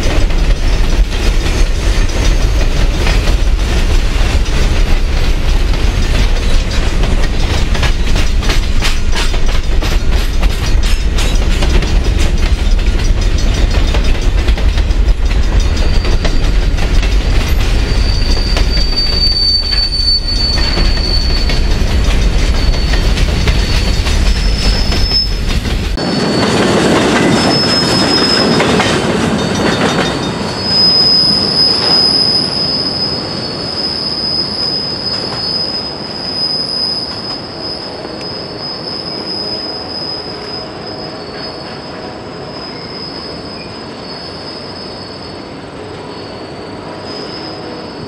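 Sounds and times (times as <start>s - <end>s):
freight train rumbling past: 0.0s - 48.0s
train wheels squealing: 0.0s - 48.0s.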